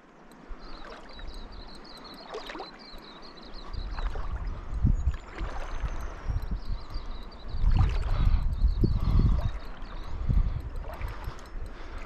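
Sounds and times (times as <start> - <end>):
river water lapping: 0.0 - 12.0.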